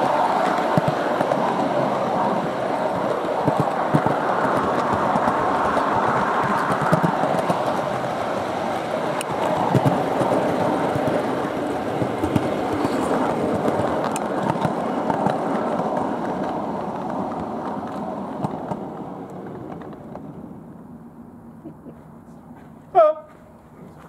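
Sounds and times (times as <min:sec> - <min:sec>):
wheels clicking over rail joints: 0:00.0 - 0:24.0.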